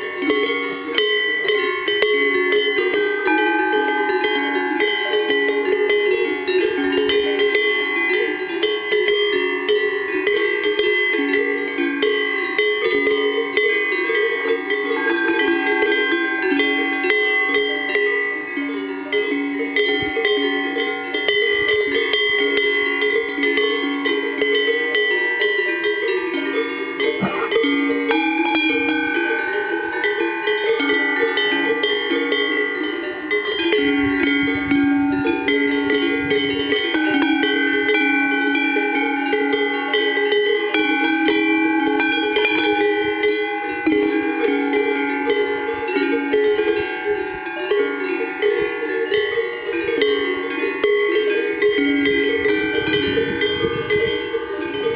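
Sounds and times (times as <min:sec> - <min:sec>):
cowbells clanging: 0:00.0 - 0:54.9.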